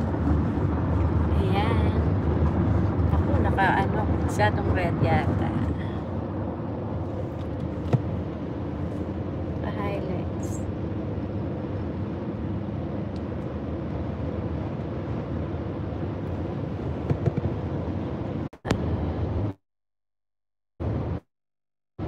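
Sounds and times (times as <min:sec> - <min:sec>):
car cabin road and engine noise: 0:00.0 - 0:19.6, 0:20.8 - 0:21.3.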